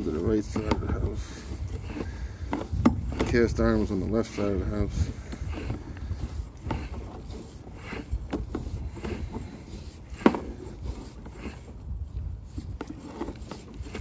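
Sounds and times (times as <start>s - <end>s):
light knocks and rubbing: 0.0s - 14.0s.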